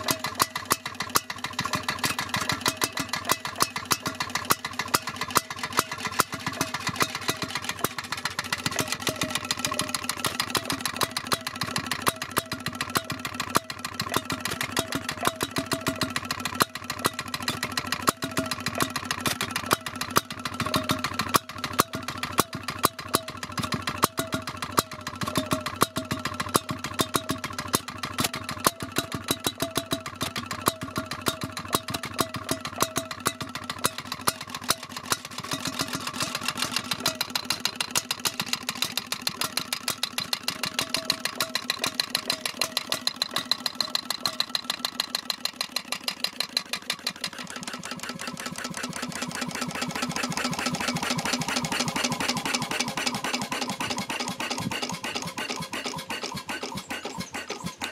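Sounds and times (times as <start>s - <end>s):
single-cylinder engine ticking: 0.0s - 57.9s.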